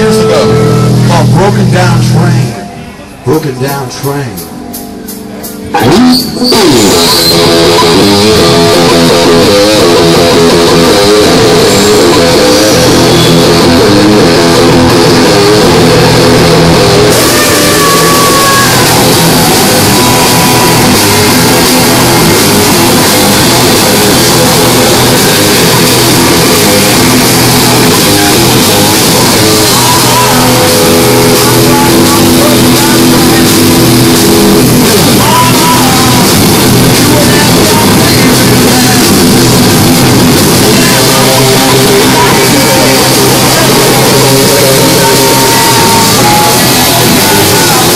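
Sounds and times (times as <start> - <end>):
electric guitars: 0.0 - 47.9
drum kit: 3.4 - 47.9.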